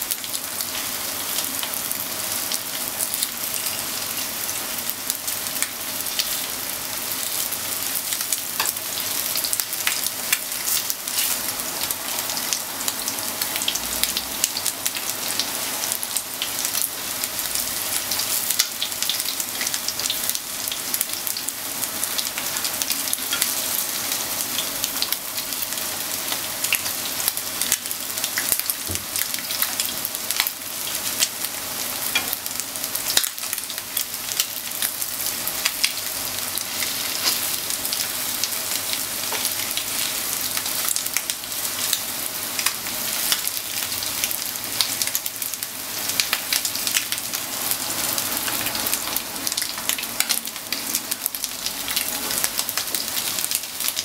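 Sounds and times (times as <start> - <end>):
chicken sizzling in frying oil: 0.0 - 54.0.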